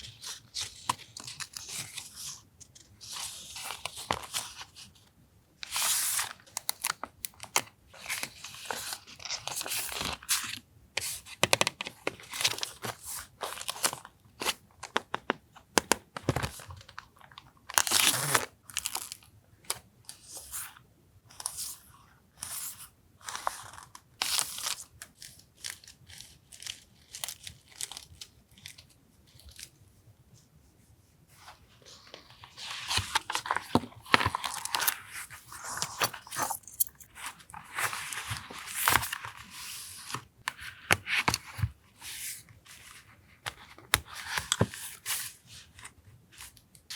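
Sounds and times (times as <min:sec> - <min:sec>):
paper crinkling and rustling: 0:00.0 - 0:05.0, 0:05.6 - 0:20.7, 0:23.2 - 0:29.8, 0:31.3 - 0:46.9.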